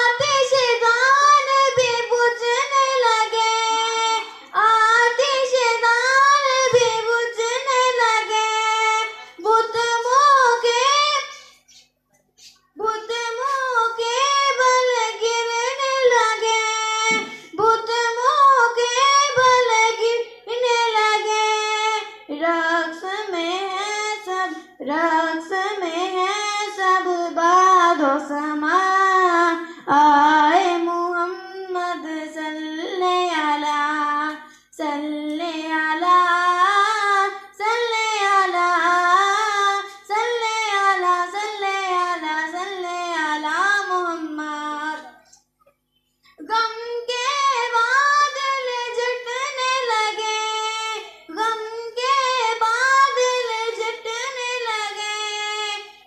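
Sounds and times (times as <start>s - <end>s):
girl singing unaccompanied: 0.0s - 11.8s, 12.4s - 45.3s, 46.4s - 56.0s.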